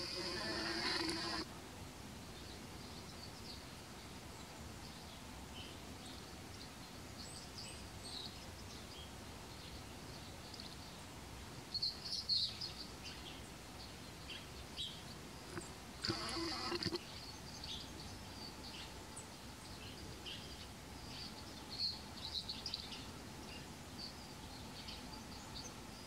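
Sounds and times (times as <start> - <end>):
small birds chirping: 0.0 - 1.5, 2.4 - 26.0
steady background hiss: 0.0 - 26.0.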